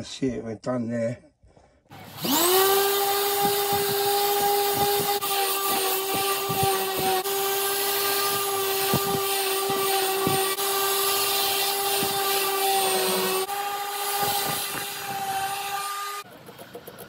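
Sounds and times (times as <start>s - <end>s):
orbital sander whining: 1.9s - 17.0s.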